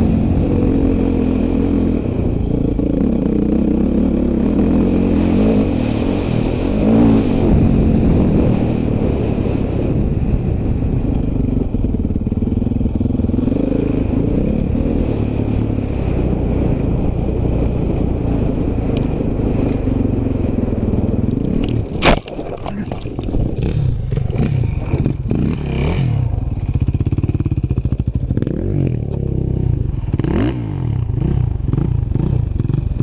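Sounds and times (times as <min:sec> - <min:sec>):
dirt bike engine: 0:00.0 - 0:33.0.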